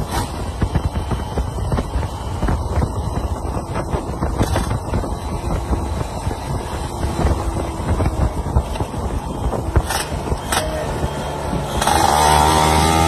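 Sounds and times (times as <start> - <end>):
two-stroke motorcycle engine rumble: 0.0 - 13.0.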